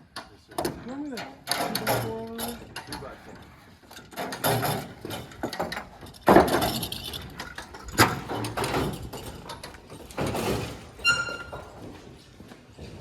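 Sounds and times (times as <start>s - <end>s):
objects knocking and scraping: 0.0s - 13.0s.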